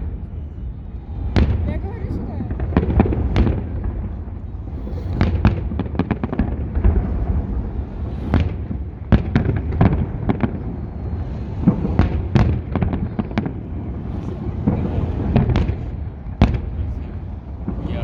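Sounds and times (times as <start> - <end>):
continuous low rumble: 0.0 - 18.0
fireworks bangs: 0.0 - 18.0.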